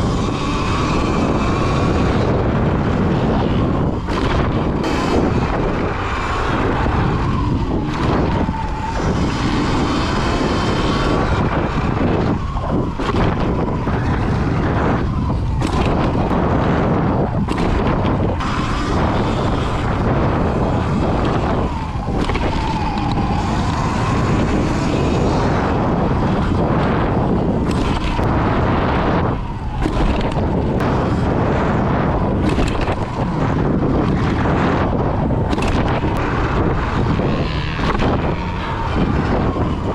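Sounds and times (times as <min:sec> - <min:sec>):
electric motor whine: 0:00.0 - 0:39.9
wind buffeting microphone: 0:00.0 - 0:39.9.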